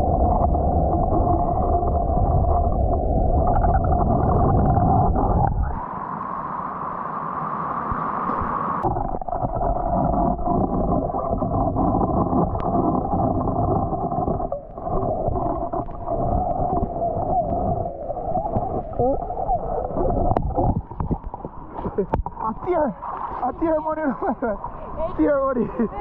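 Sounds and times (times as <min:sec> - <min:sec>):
muffled river water rushing: 0:00.0 - 0:26.0.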